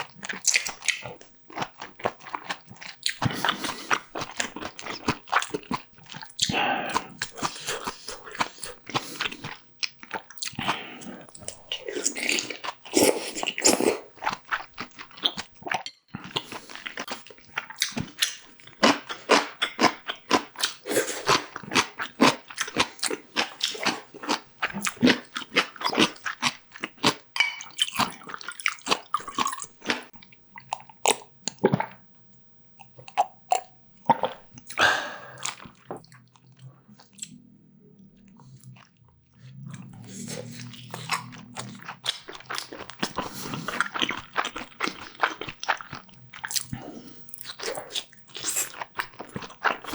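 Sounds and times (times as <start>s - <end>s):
person chewing and biting food: 0.0s - 32.0s, 32.8s - 37.4s, 38.1s - 49.9s.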